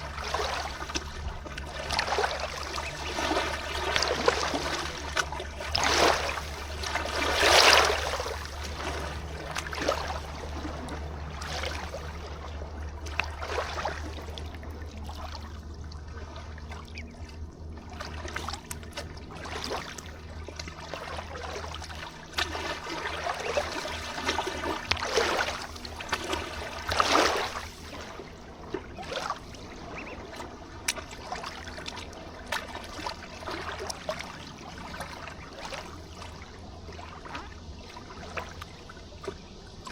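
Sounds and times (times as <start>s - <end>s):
river water trickling and lapping: 0.0s - 39.9s
steady low rumble: 0.0s - 39.9s.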